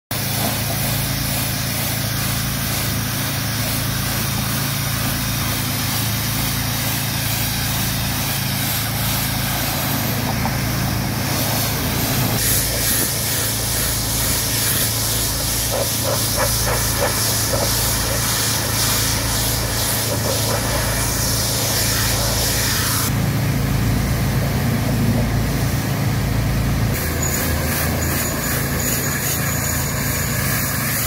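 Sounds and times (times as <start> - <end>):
high-pressure water jet hiss: 0.1 - 23.2, 26.9 - 31.0
pressure washer engine drone: 0.1 - 31.0.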